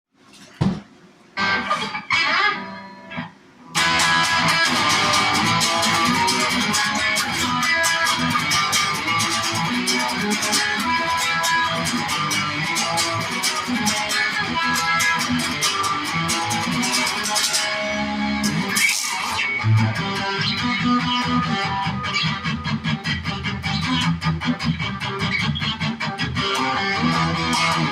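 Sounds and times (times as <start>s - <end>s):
guitar-driven rock music: 1.4s - 27.9s.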